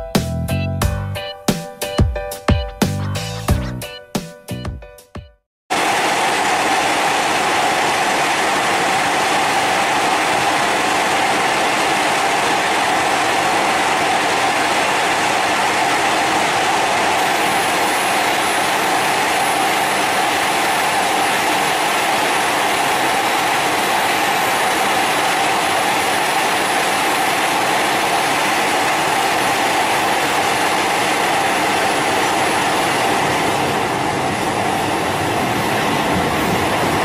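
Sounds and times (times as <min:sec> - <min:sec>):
electric train rushing past: 0:05.7 - 0:37.0.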